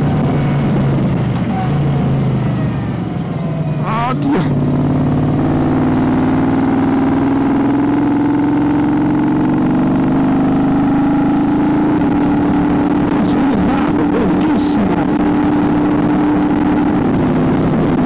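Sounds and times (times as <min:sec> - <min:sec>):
motorcycle engine running under load: 0:00.0 - 0:18.0.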